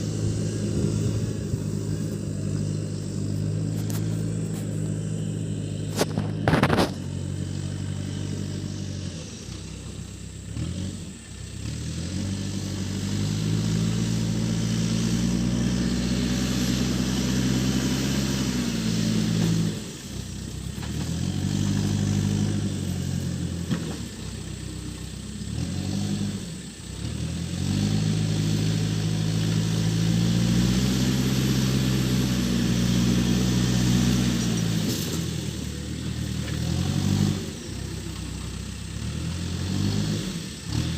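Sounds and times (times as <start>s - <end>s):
diesel engine revving under load: 0.0s - 40.9s.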